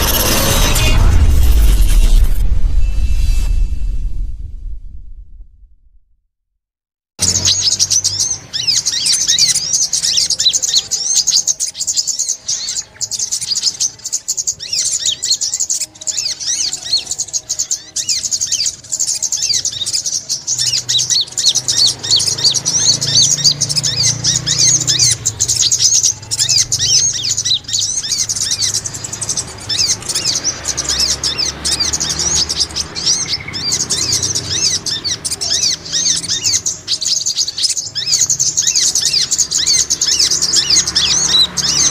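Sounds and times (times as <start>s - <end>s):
bird chirping and twittering: 7.2s - 41.9s.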